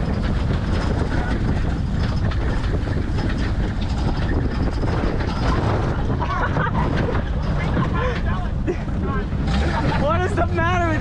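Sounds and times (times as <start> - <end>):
truck cab rattling and knocking: 0.0 - 11.0
truck engine rumble: 0.0 - 11.0.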